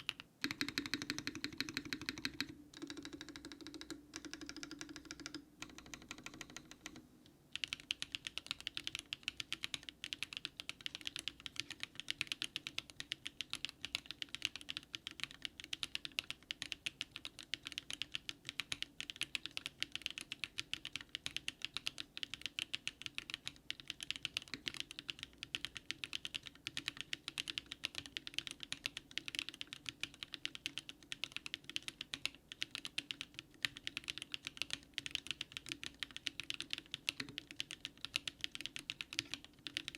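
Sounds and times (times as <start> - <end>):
mechanical keyboard typing: 0.0 - 7.0, 7.6 - 39.9.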